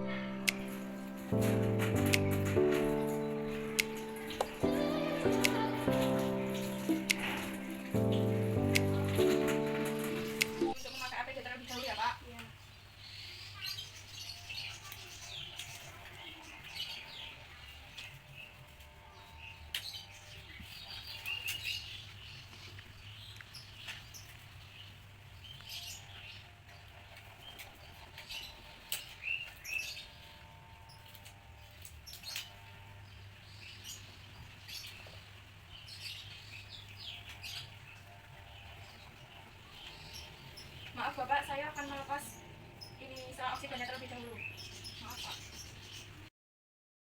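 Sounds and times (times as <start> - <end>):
small birds chirping: 0.0 - 46.3.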